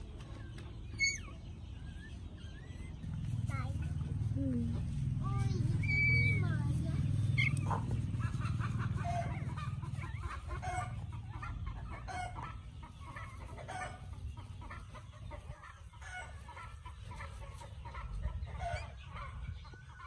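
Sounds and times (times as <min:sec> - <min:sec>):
chickens clucking: 0:00.0 - 0:20.0
low steady rumble: 0:00.0 - 0:20.0.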